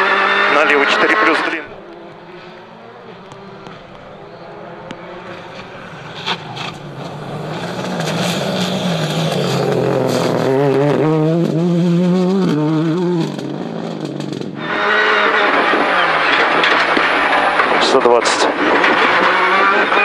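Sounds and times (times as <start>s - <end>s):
car engine accelerating: 0.0s - 20.0s
tyre and road noise: 0.0s - 20.0s.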